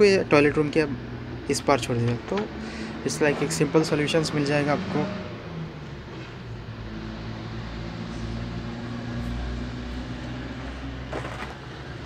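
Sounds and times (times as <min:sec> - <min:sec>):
outdoor rumble and hum: 0:00.0 - 0:12.0.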